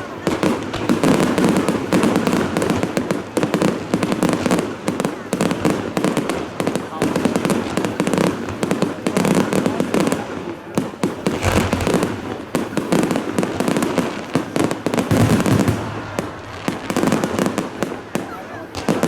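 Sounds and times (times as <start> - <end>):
fireworks booming: 0.0 - 19.0
fireworks crackling and popping: 0.0 - 19.0.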